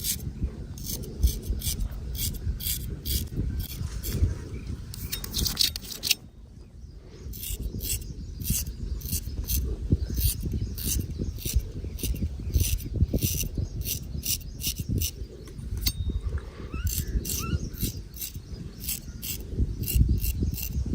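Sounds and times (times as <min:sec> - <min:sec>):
razor scraping through hair: 0:00.0 - 0:04.3, 0:04.9 - 0:06.2, 0:07.3 - 0:15.2, 0:16.7 - 0:20.9.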